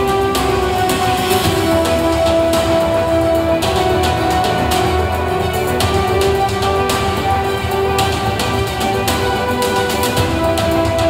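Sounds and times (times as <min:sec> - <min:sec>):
music with held notes and beat: 0:00.0 - 0:11.0.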